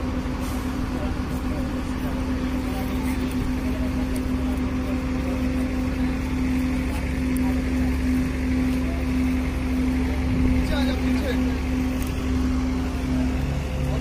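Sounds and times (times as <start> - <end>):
crane diesel engine rumbling: 0.0 - 14.0
steady droning hum: 0.0 - 14.0.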